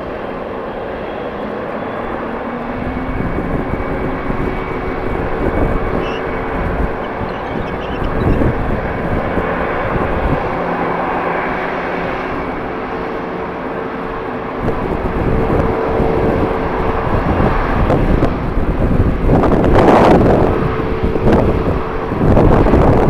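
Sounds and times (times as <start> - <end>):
jet engines whining: 0.0 - 23.0
wind buffeting microphone: 0.0 - 23.0.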